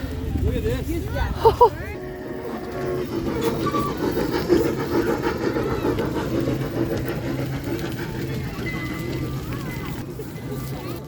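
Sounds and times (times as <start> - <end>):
small train engine running: 0.0 - 11.0.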